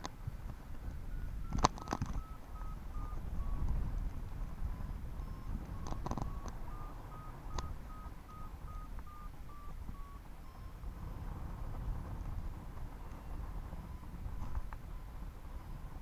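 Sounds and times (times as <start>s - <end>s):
crackles: 0.0s - 16.0s
wind rushing over microphone: 0.0s - 16.0s
variometer beeping: 1.0s - 16.0s.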